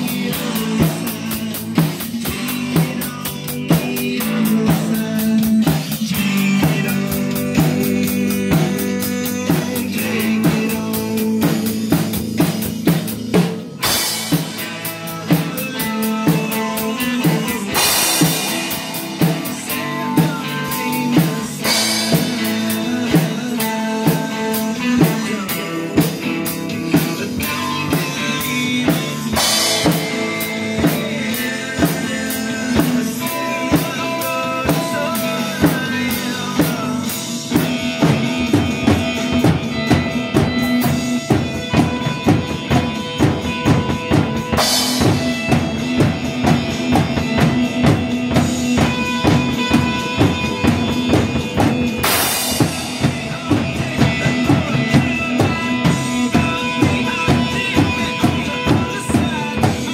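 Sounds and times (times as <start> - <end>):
drum kit beat: 0.0 - 59.9
strummed acoustic guitar: 0.0 - 59.9.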